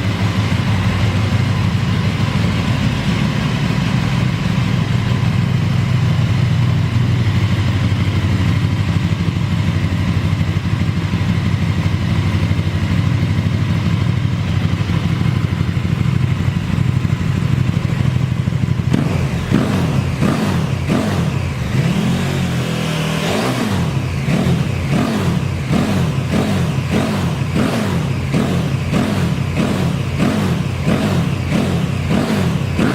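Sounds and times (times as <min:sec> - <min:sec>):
motorcycle engine idling: 0:00.0 - 0:32.9
motorcycle throttle blips: 0:00.0 - 0:32.9.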